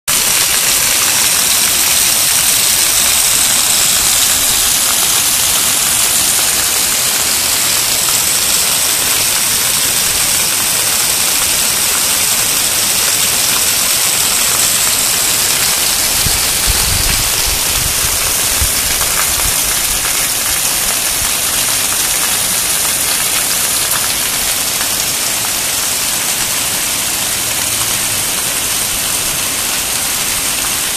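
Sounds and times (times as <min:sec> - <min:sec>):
heavy rain: 0:00.1 - 0:30.9
water running off a roof: 0:00.1 - 0:30.9.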